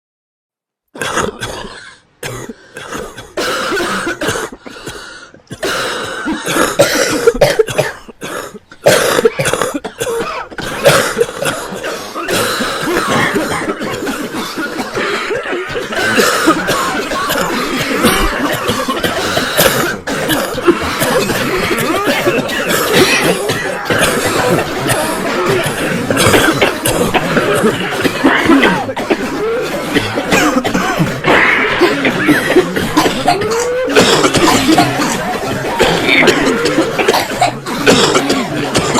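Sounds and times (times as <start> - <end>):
person coughing: 1.0 - 38.9.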